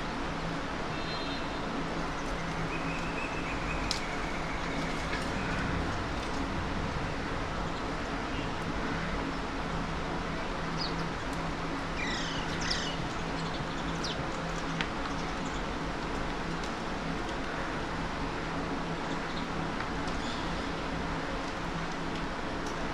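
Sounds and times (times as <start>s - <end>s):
city traffic drone: 0.0s - 22.9s.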